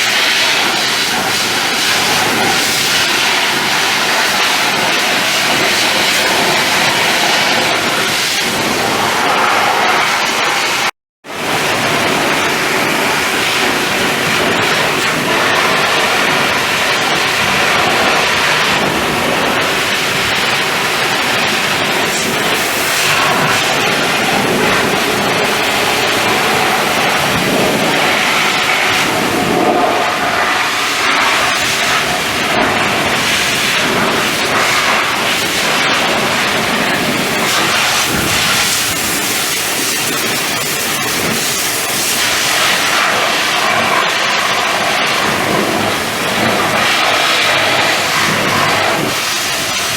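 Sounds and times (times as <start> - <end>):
water spraying on metal: 0.0 - 49.9.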